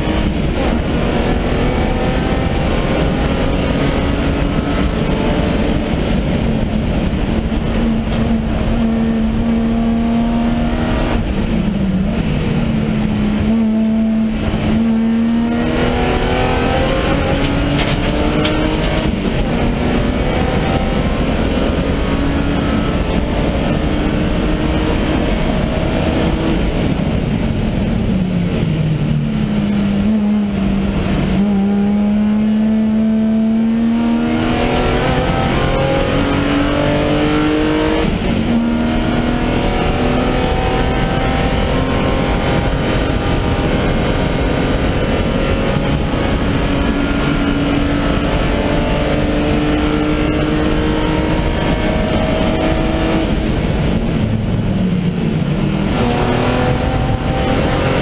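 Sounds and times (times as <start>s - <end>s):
race car engine revving: 0.0s - 58.0s
road and wind noise: 0.0s - 58.0s.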